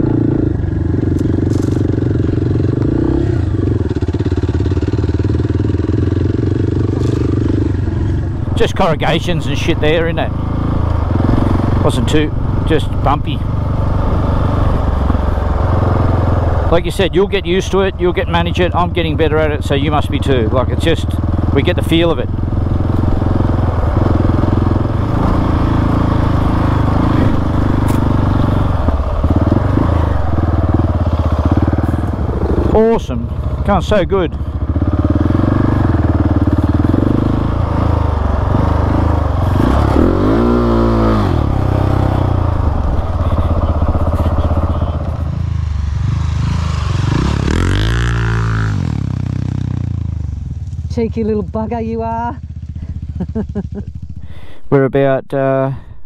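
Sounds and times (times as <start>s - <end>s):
motorcycle engine running: 0.0s - 54.6s.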